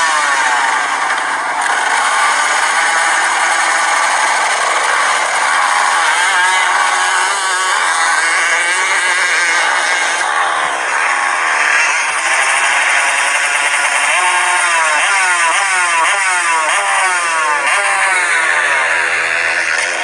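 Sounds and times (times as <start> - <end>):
motocross bikes running: 0.0 - 20.0
motorcycle engine revving: 0.0 - 20.0.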